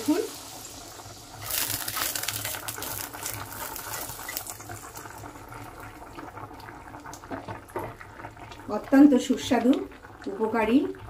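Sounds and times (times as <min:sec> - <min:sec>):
crackling sizzle of hot oil: 0:00.0 - 0:11.0
curry bubbling in a pan: 0:00.0 - 0:11.0.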